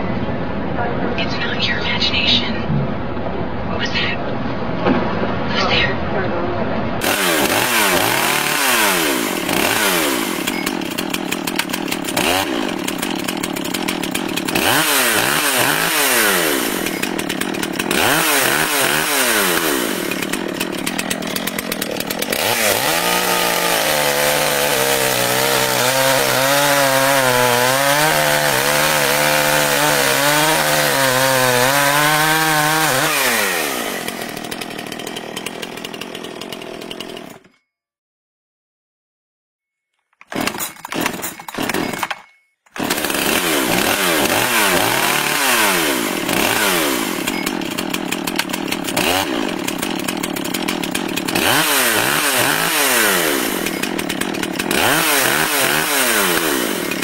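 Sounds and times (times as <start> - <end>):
chainsaw engine revving: 7.0 - 37.5, 40.2 - 57.0.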